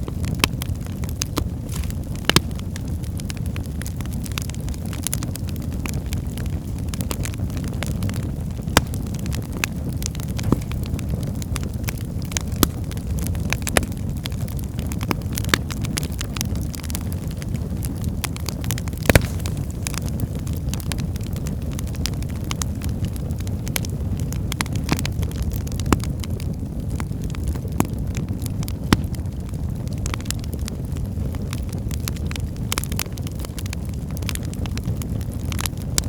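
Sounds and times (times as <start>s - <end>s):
wood fire burning: 0.0s - 36.0s.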